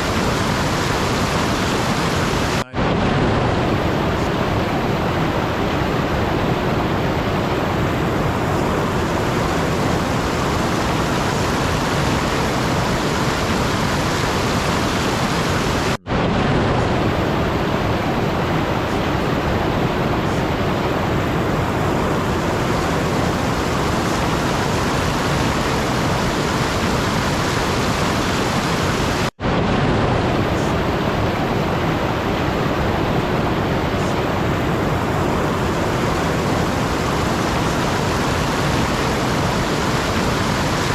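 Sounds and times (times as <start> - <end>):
steady rushing noise: 0.0 - 40.9.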